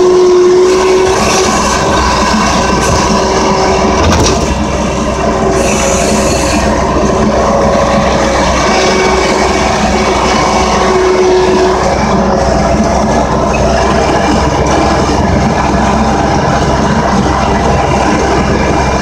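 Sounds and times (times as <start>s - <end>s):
engine running under load: 0.0s - 19.0s
high-pitched whine: 0.0s - 19.0s.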